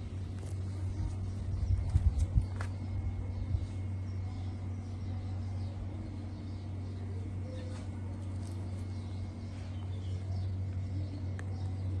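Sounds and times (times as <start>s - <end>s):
small birds chirping faintly: 0.0s - 12.0s
steady low hum: 0.0s - 12.0s.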